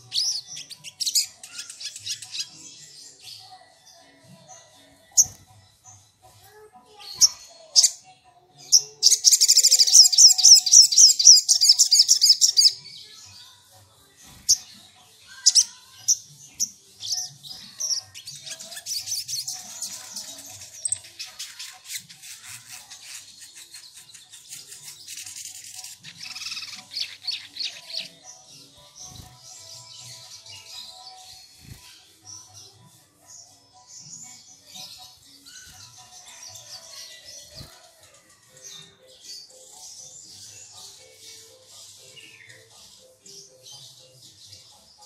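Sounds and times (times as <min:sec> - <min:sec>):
bird trilling and chirping: 0:00.0 - 0:03.4, 0:08.6 - 0:12.9, 0:14.2 - 0:45.0.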